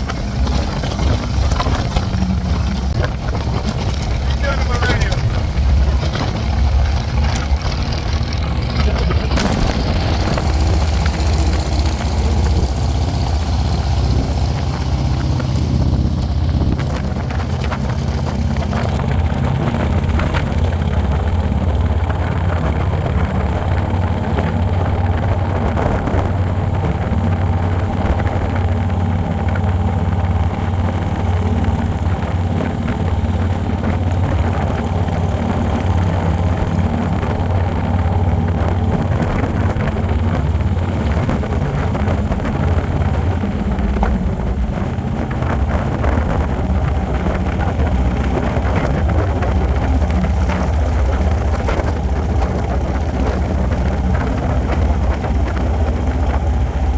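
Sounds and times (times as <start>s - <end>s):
motorcycle engine droning: 0.0s - 56.9s
noisy rush: 0.0s - 56.9s.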